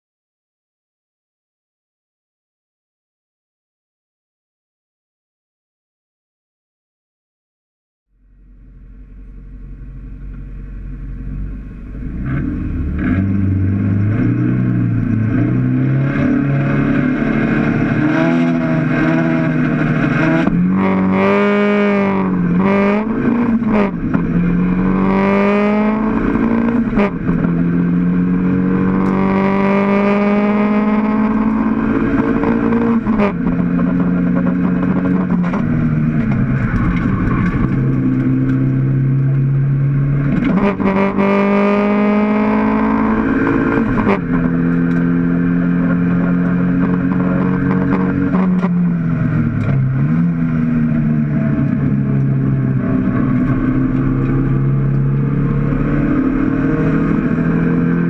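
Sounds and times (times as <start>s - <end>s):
race car engine pulling hard: 9.3s - 58.0s.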